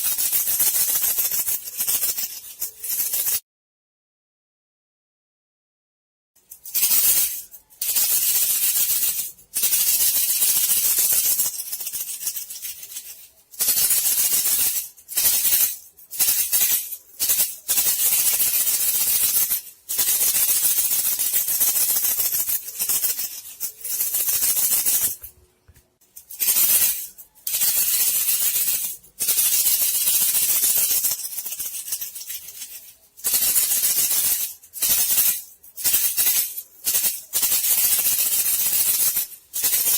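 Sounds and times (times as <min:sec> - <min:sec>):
rapid shaken rattle: 0:00.0 - 0:03.4, 0:06.6 - 0:25.2, 0:26.1 - 0:39.9.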